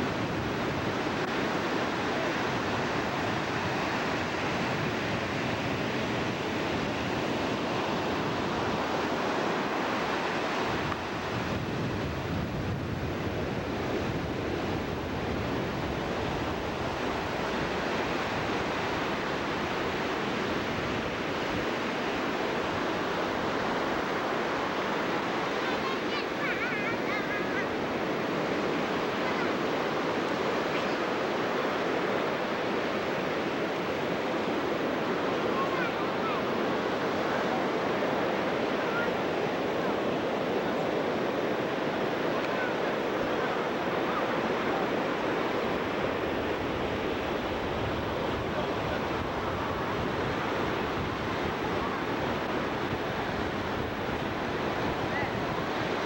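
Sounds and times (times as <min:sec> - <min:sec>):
wind on microphone: 0:00.0 - 0:25.5, 0:26.8 - 0:56.0
ocean waves washing ashore: 0:00.0 - 0:56.0.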